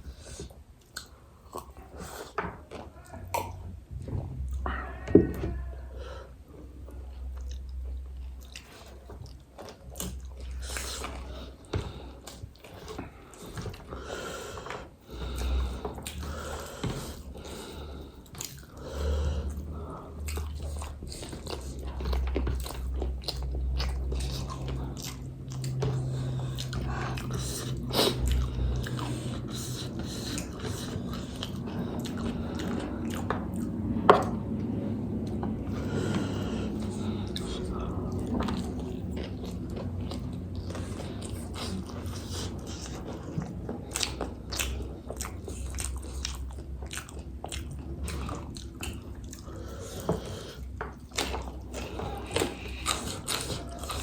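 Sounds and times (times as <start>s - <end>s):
crunchy food chewing: 7.4s - 34.4s, 35.1s - 54.0s.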